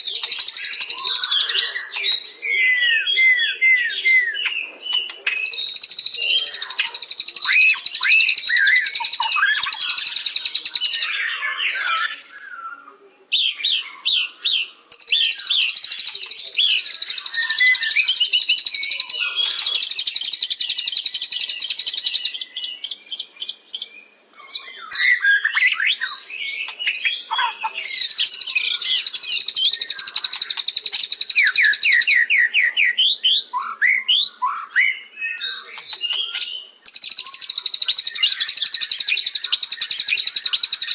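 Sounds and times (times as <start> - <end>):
bird singing rapid trills: 0.0 - 3.0, 3.8 - 12.7, 14.3 - 40.9.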